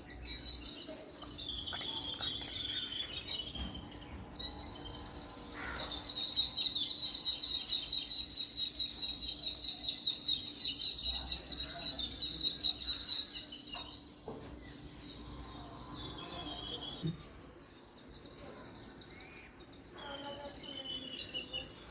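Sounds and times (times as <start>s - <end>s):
pet birds chirping: 0.0s - 21.9s.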